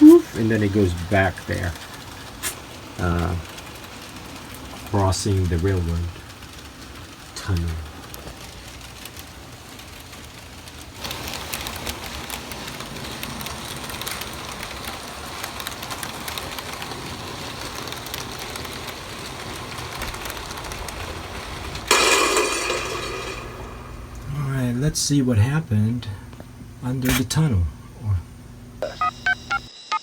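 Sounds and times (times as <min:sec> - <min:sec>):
rustling clatter: 0:00.0 - 0:24.4
model train rattling on track: 0:00.0 - 0:26.2.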